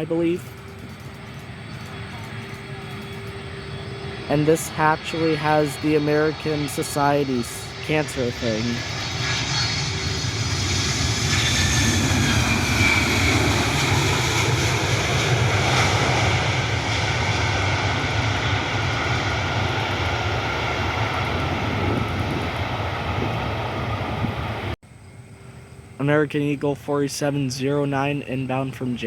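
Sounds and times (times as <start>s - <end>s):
jet engines passing: 0.0s - 29.0s.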